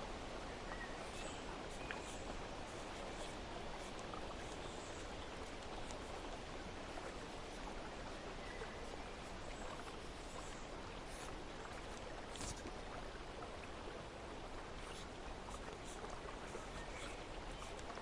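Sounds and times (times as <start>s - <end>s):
running water hiss: 0.0s - 18.0s.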